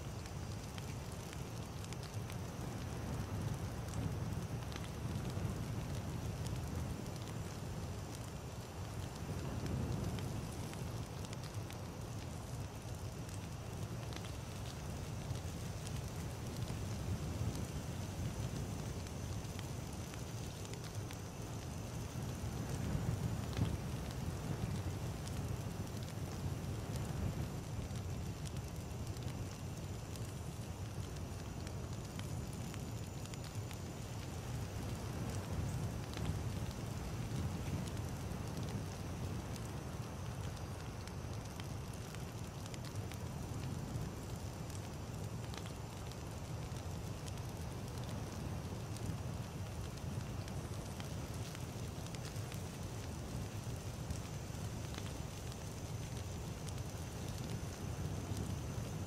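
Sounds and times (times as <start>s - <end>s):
campfire crackling and popping: 0.0s - 59.0s
low rumble of flame: 0.0s - 59.0s.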